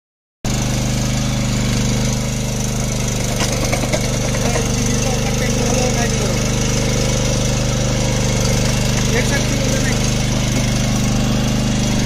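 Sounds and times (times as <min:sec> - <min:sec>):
power weeder engine running: 0:00.5 - 0:12.0.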